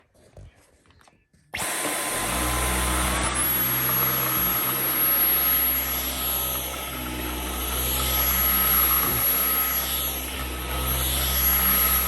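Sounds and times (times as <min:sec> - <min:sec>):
cordless vacuum running: 0:01.6 - 0:12.0.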